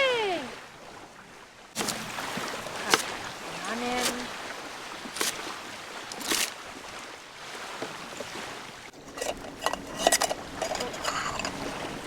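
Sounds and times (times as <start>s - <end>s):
rushing water: 0.0s - 12.0s
wind: 0.0s - 12.0s.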